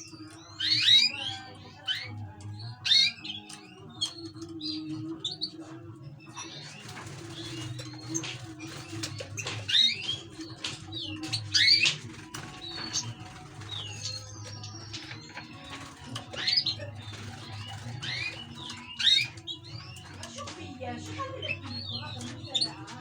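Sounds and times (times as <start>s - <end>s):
finches chirping and singing: 0.0s - 23.0s.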